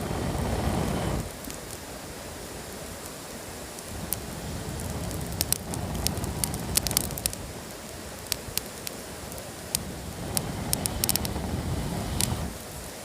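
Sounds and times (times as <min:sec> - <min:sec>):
campfire crackling and popping: 0:00.0 - 0:12.7.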